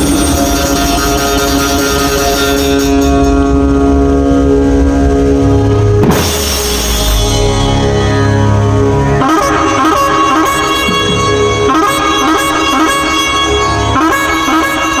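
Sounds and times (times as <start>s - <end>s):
band music with heavy drums: 0.0s - 15.0s.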